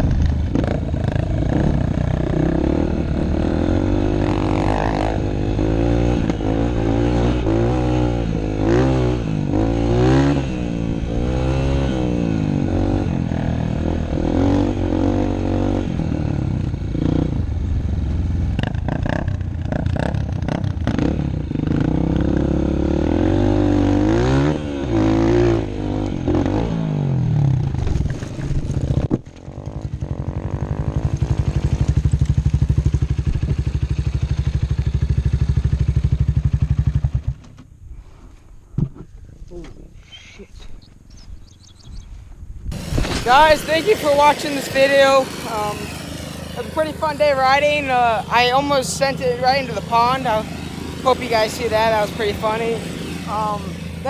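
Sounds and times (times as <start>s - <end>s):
dirt bike engine revving: 0.0s - 37.4s, 42.7s - 54.0s.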